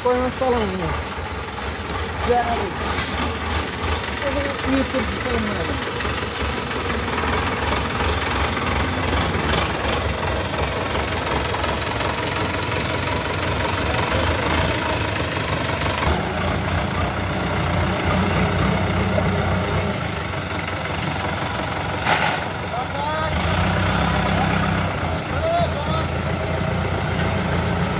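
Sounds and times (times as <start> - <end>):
heavy machine diesel engine running: 0.0 - 27.9.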